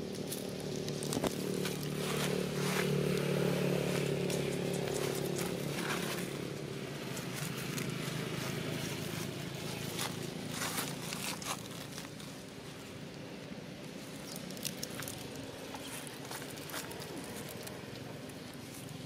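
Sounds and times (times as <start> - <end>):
dry leaves crackling underfoot: 0.0 - 19.0
motor engine humming: 0.0 - 19.0.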